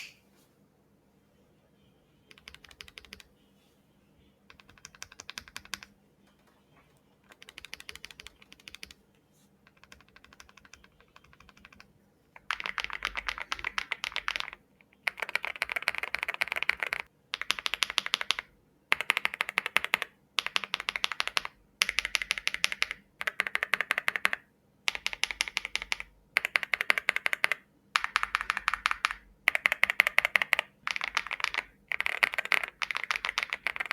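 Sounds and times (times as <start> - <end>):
mechanical keyboard typing: 2.3 - 3.3, 4.5 - 6.6, 7.2 - 9.0, 9.7 - 33.9.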